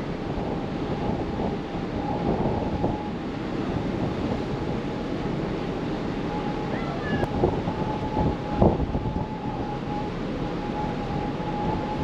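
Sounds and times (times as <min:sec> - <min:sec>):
ferry engine rumble: 0:00.0 - 0:12.0
wind on microphone: 0:00.0 - 0:12.0.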